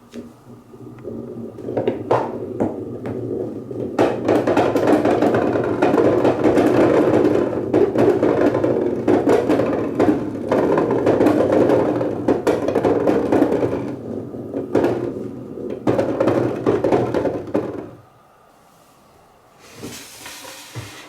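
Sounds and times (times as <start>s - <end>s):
balls clacking on wood: 0.0s - 18.1s
balls rolling on wooden marble run: 0.0s - 18.1s.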